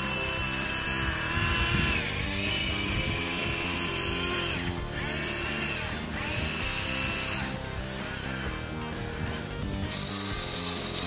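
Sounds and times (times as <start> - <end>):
background music: 0.0 - 11.0
electric gear motor whining: 0.0 - 11.0.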